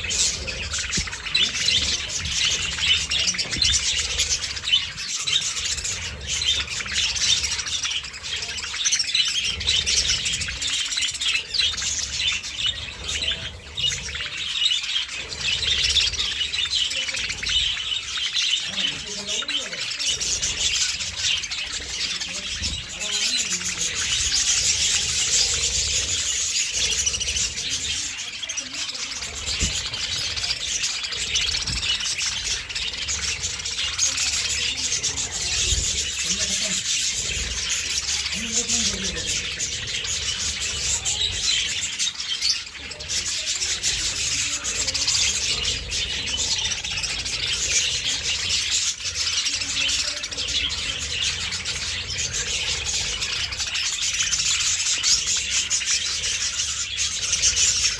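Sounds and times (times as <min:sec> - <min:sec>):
budgerigars chattering and chirping: 0:00.0 - 0:57.9.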